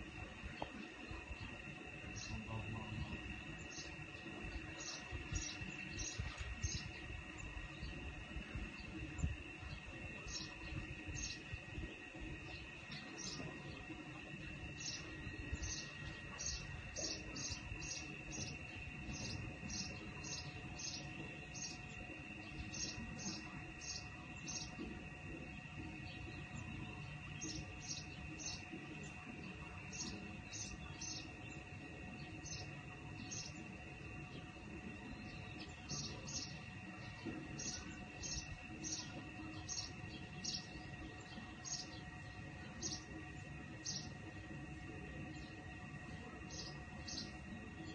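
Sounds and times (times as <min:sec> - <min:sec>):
faint steady hum: 0:00.0 - 0:47.9
bird chirping: 0:00.2 - 0:47.9.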